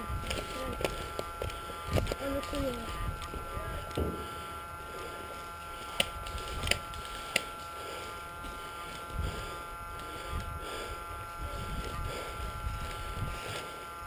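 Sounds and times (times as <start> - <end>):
steady electronic hum: 0.0 - 14.0.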